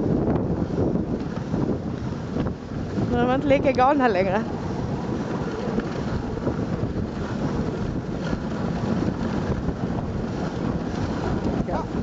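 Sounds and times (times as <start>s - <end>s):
sled runners rushing over snow: 0.0s - 12.0s
wind buffeting microphone: 0.0s - 12.0s.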